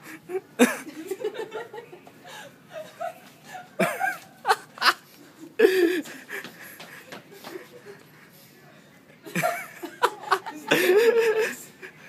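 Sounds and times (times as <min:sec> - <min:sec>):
people laughing: 0:00.0 - 0:08.2, 0:09.2 - 0:12.0.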